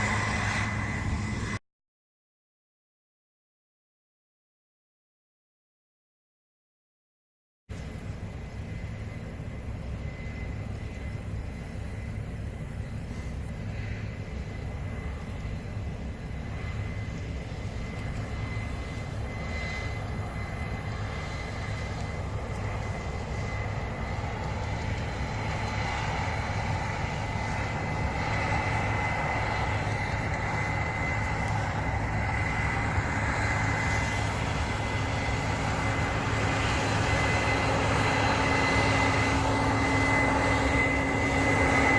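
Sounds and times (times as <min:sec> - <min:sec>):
combine harvester running: 0:00.0 - 0:01.6, 0:07.7 - 0:41.9.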